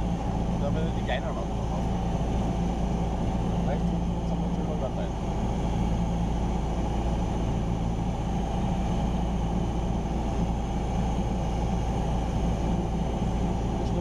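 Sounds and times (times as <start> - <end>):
airplane engine droning in flight: 0.0 - 14.0.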